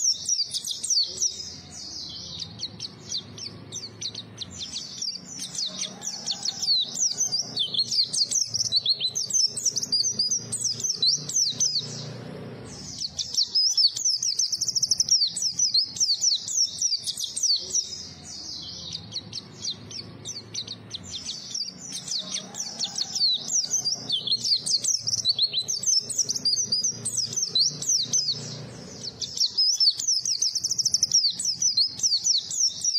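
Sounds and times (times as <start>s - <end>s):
bird twittering song: 0.0s - 32.9s.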